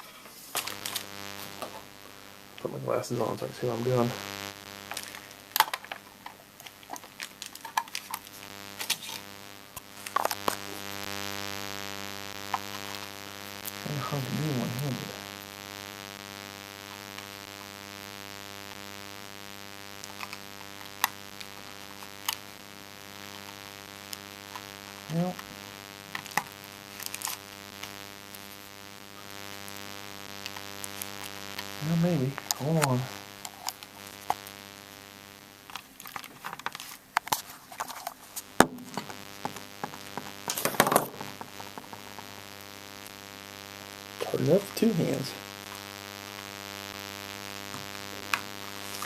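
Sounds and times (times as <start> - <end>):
steady electrical hum: 0.0 - 49.0.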